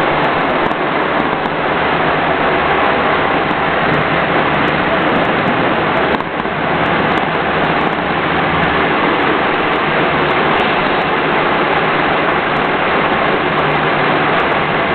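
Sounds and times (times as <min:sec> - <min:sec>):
wind and road noise: 0:00.0 - 0:14.9.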